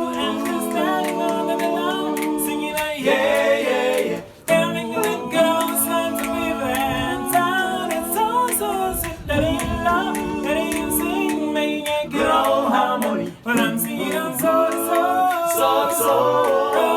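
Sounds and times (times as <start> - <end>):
a cappella voices singing harmony: 0.0 - 16.9.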